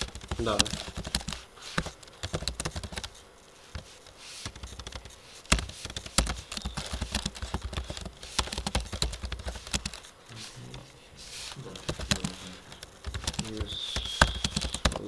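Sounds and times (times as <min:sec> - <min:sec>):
computer keyboard typing: 0:00.0 - 0:10.9, 0:11.6 - 0:15.0.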